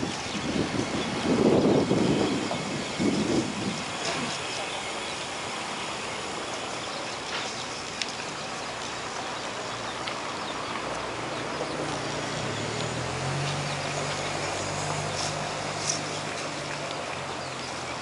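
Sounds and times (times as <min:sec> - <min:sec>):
outdoor noise hiss: 0:00.0 - 0:18.0
vehicle engine hum: 0:00.0 - 0:18.0.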